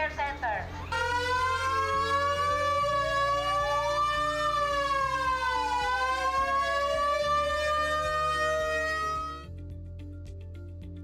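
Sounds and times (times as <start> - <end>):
warning sirens wailing: 0.6 - 9.5.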